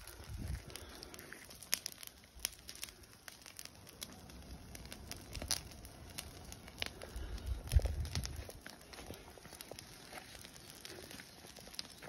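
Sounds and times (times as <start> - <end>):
bonfire crackling: 0.0 - 12.0
sharp pops and snaps: 0.0 - 12.0.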